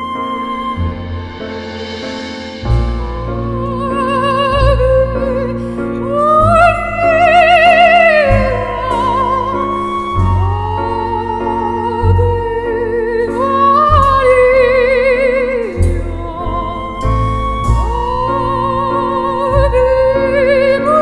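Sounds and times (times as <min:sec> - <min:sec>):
instrumental accompaniment: 0:00.0 - 0:21.0
soprano singing with vibrato: 0:00.0 - 0:21.0.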